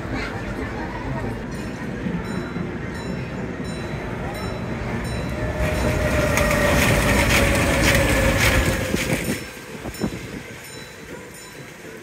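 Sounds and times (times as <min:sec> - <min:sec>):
roller coaster rumble: 0:00.0 - 0:12.0.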